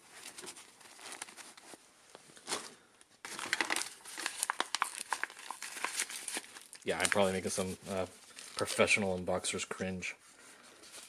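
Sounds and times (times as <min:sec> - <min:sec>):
packaging rustling: 0:00.0 - 0:09.1
paper bag crinkling: 0:00.0 - 0:09.2.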